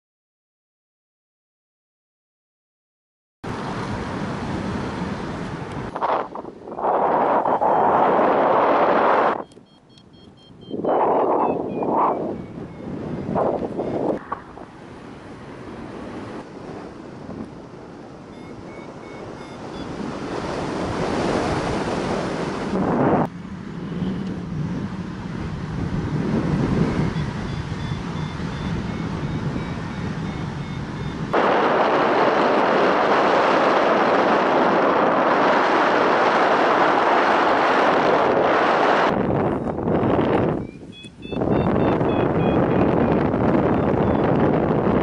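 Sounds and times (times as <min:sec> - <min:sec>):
wind rushing over microphone: 0:03.5 - 0:09.6, 0:10.5 - 0:45.0.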